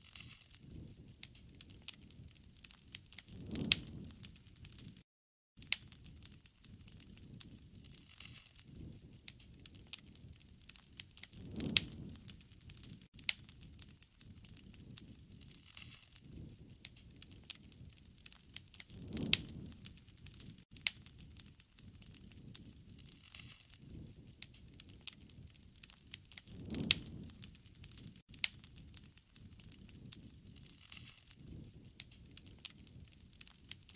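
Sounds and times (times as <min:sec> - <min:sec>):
low rumble of flames: 0:00.0 - 0:05.0, 0:05.6 - 0:33.9
campfire crackling and popping: 0:00.0 - 0:33.9.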